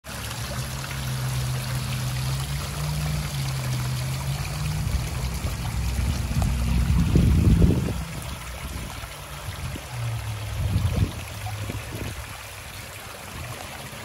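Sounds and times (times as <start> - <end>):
water pouring onto rocks: 0.0 - 14.0
low steady hum: 0.1 - 13.7.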